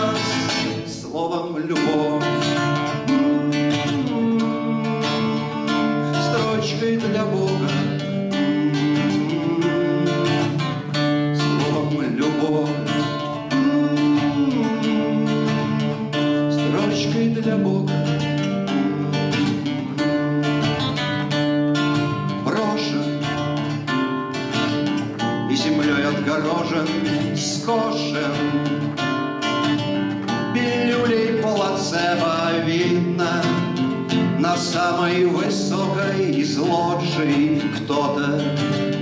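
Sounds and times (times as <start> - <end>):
man singing: 0.0 - 20.6, 22.2 - 23.7, 25.2 - 39.0
acoustic guitar strumming chords: 0.0 - 39.0.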